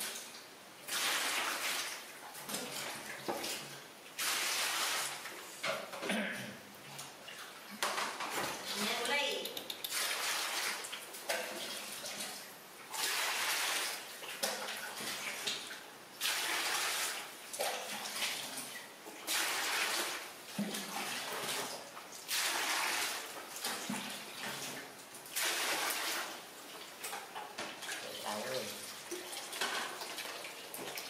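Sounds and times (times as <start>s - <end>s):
water splashing in plastic basin: 0.0s - 6.0s, 6.8s - 31.0s.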